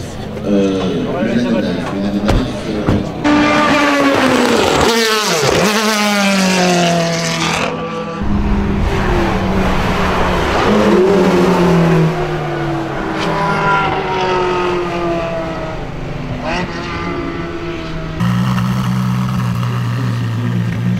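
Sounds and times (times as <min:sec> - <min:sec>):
sports cars passing at speed: 0:00.1 - 0:20.9.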